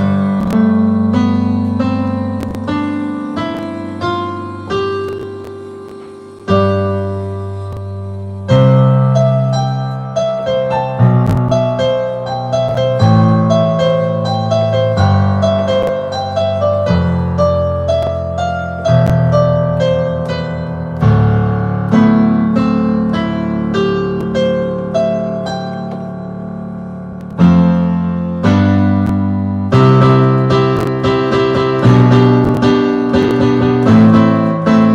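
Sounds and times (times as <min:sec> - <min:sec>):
digital piano playing chords and melody: 0:00.0 - 0:34.9.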